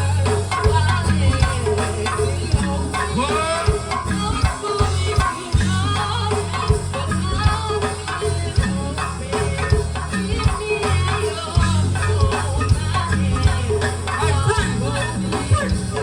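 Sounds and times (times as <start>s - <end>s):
deep bass notes: 0.0s - 16.0s.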